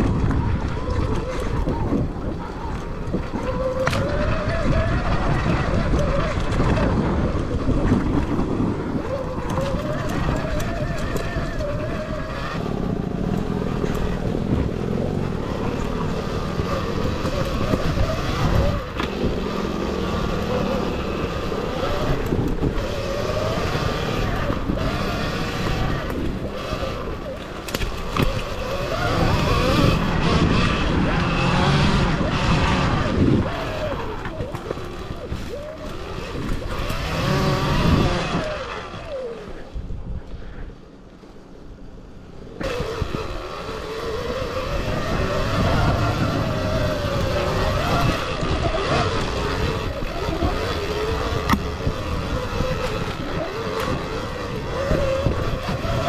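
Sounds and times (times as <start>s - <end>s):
bike rumbling and rattling on trail: 0.0s - 56.0s
wind on microphone: 0.0s - 56.0s.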